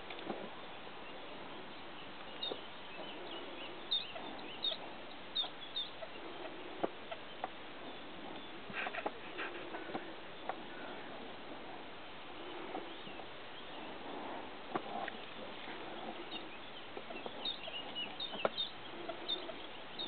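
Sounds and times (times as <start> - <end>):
steady background hiss: 0.0 - 20.0
soft bird chirps: 0.2 - 11.2, 11.8 - 20.0.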